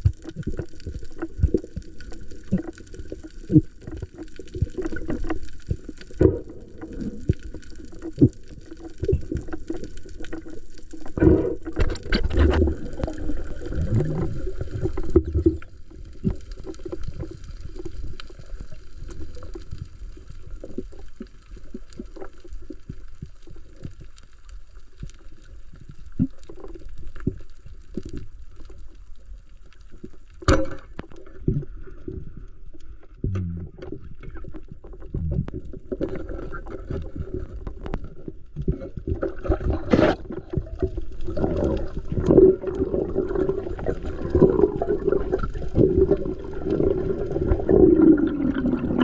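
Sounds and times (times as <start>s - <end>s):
water sloshing and gurgling: 0.0s - 49.0s.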